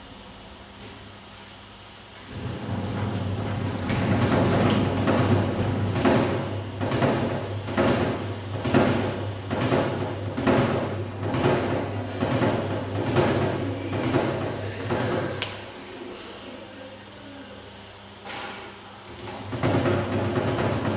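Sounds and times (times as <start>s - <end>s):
washing machine motor hum: 0.0s - 20.9s.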